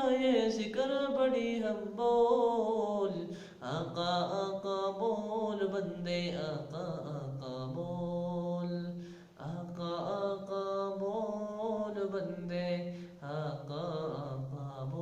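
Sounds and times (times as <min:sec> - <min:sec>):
man chanting a devotional hymn: 0:00.0 - 0:15.0.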